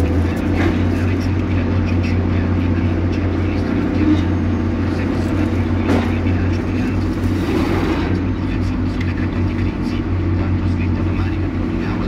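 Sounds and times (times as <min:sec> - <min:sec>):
diesel engine droning: 0:00.0 - 0:12.0
faint voices: 0:00.0 - 0:12.0.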